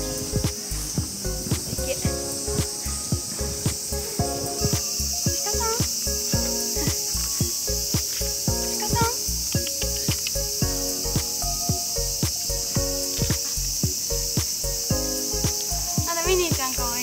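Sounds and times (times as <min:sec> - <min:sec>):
background music with soft beat: 0:00.0 - 0:17.0
cicadas chorus: 0:00.0 - 0:17.0.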